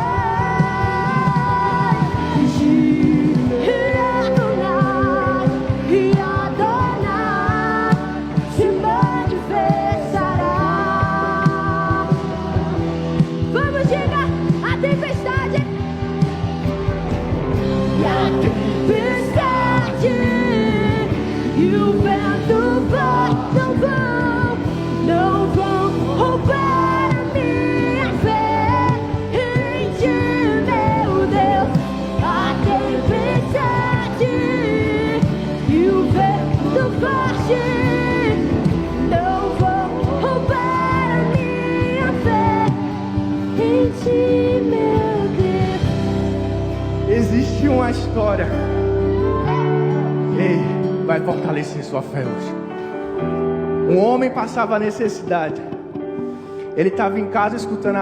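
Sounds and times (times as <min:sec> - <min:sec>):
voices singing: 0:00.0 - 0:50.9
band accompaniment: 0:00.0 - 0:58.0.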